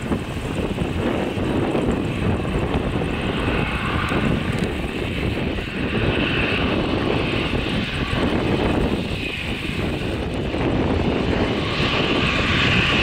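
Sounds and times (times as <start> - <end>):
jet engines running loud: 0.0 - 13.0.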